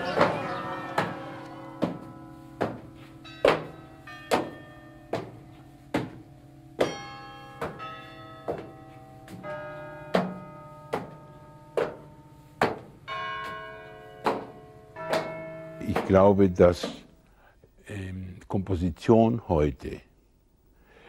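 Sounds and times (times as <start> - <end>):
sharp bell-like struck tones: 0.2 - 17.1.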